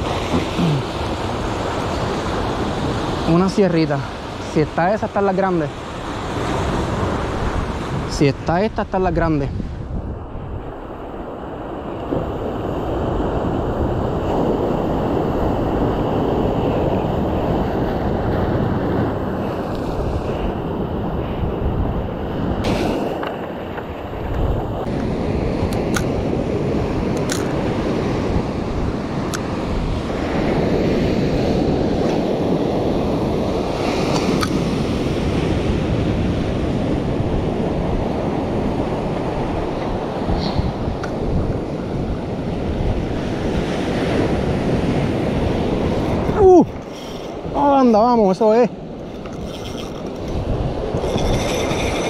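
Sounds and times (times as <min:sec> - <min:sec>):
ocean surf breaking: 0:00.0 - 0:52.0
wind buffeting microphone: 0:05.8 - 0:52.0.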